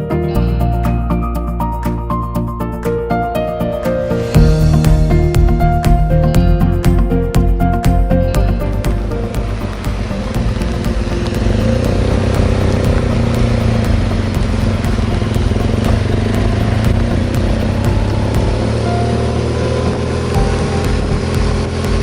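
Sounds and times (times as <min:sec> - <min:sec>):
motorcycle engine running: 0:04.2 - 0:22.0.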